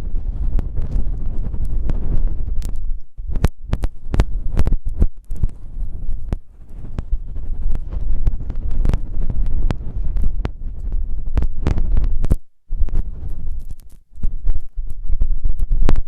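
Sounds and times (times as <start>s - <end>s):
rubbing and scratching on microphone: 0.0s - 16.0s.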